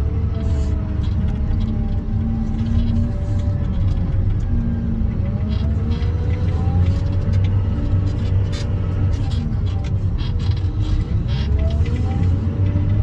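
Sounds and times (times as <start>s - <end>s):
diesel engine deep rumble: 0.0s - 13.0s
engine whine: 0.0s - 13.0s
light clanks and rattles: 0.2s - 13.0s.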